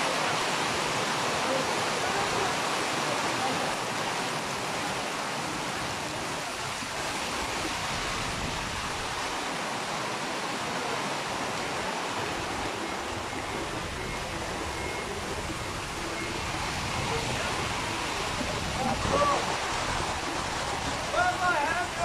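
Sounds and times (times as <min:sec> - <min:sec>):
heavy rain: 0:00.0 - 0:22.0
running floodwater: 0:00.0 - 0:22.0.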